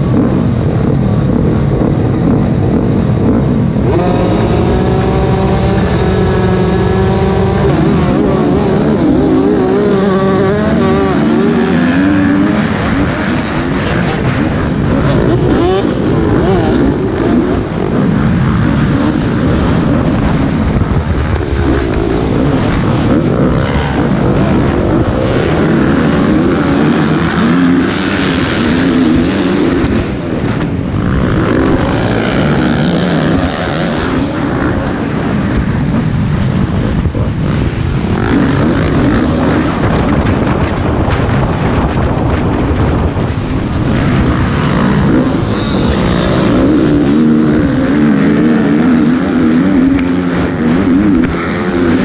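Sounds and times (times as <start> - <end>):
dirt bike engine revving: 0.0 - 20.8, 21.5 - 36.0, 36.8 - 52.0
other dirt bikes running: 0.0 - 52.0.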